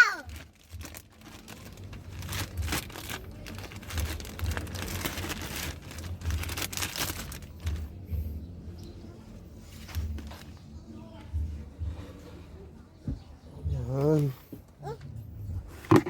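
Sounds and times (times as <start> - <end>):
crinkling and rustling: 0.1 - 8.4, 9.0 - 16.0.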